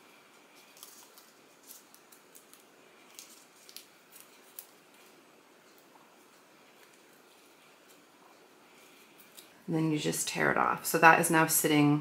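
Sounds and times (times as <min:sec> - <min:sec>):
tape crackling and rustling: 0:00.0 - 0:09.7.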